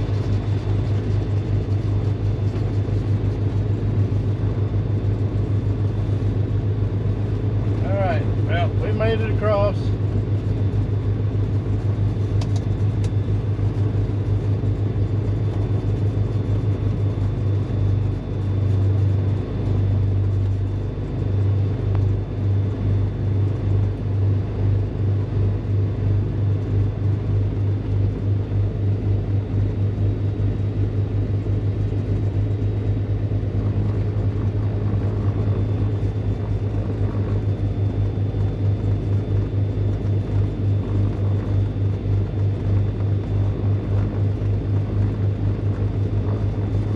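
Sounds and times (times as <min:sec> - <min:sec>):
aircraft engines droning: 0:00.0 - 0:46.9.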